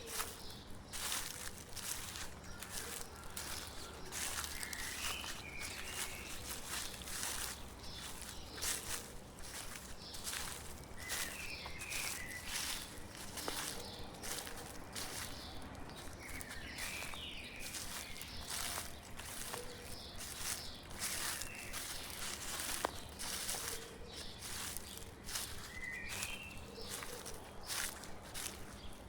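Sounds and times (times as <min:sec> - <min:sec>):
bird chirps: 0:00.0 - 0:29.0
footsteps crunching dry leaves: 0:00.0 - 0:29.0.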